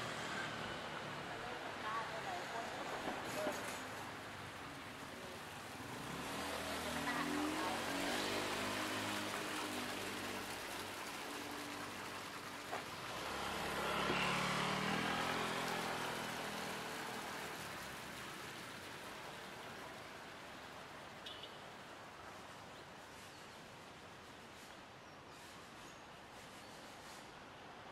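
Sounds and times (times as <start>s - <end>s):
vehicles passing by: 0.0s - 25.5s
road noise hiss: 0.0s - 27.9s.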